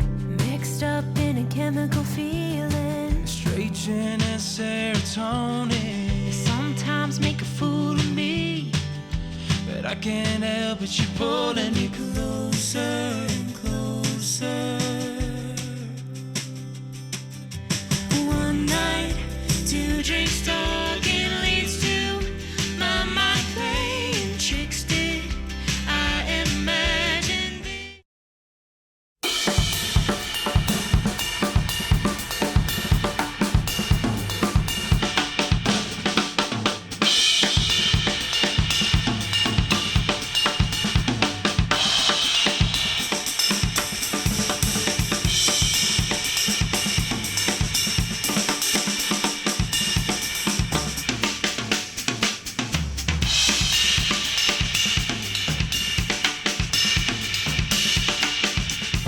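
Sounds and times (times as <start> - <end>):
drum kit playing a fast beat: 0.0 - 27.6, 29.2 - 59.0.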